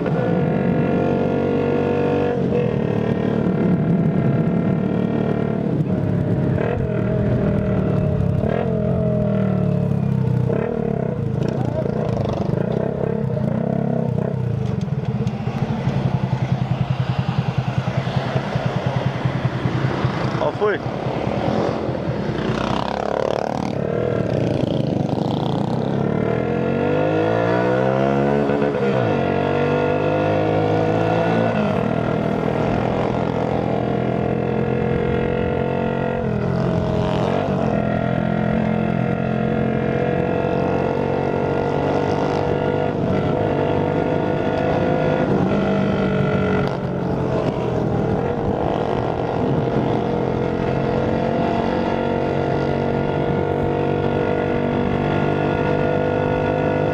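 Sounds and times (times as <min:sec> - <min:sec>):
scooter engine revving: 0:00.4 - 0:56.9.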